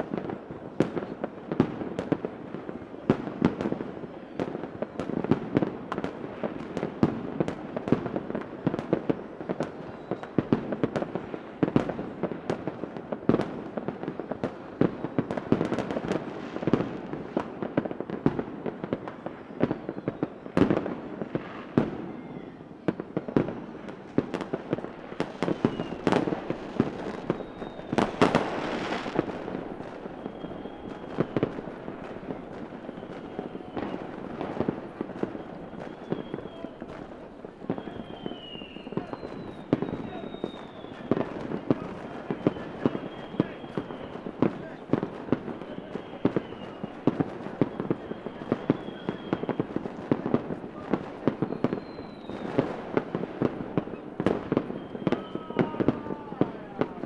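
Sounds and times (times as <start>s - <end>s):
fireworks bangs and pops: 0.0s - 57.0s
fireworks crackle: 0.0s - 57.0s.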